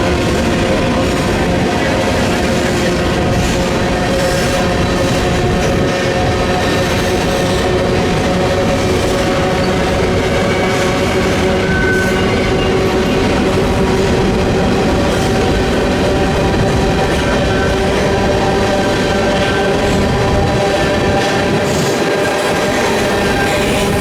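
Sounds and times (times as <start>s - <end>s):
freight train rumbling on rails: 0.0s - 24.0s
wind on microphone: 0.0s - 24.0s.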